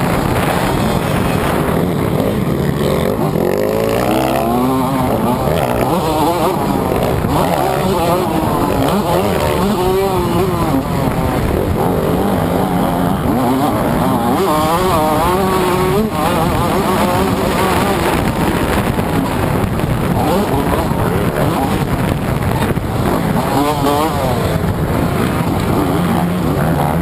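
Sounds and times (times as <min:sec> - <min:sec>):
motocross engine revving: 0:00.0 - 0:27.0.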